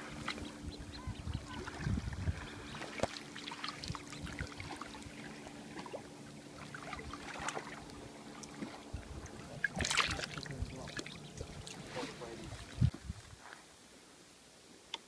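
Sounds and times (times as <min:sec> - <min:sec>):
water lapping with splashes: 0:00.0 - 0:12.9
faint steady hum: 0:00.0 - 0:15.0.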